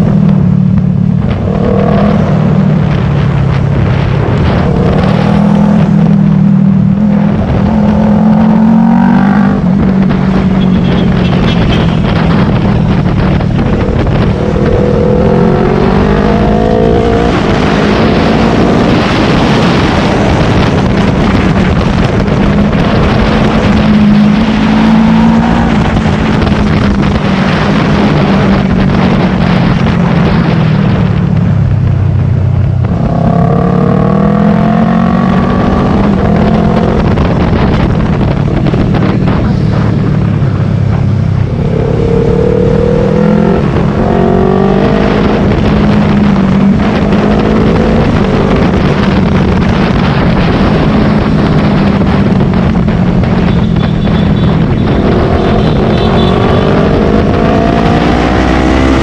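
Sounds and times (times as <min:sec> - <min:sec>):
motorcycle engine revving: 0:00.0 - 0:59.0
wind rushing over microphone: 0:00.0 - 0:59.0.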